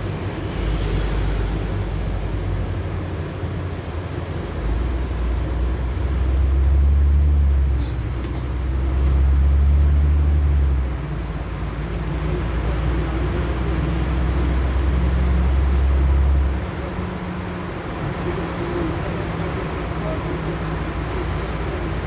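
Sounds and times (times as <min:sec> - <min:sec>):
bus engine drone: 0:00.0 - 0:22.0
road noise: 0:00.0 - 0:22.0.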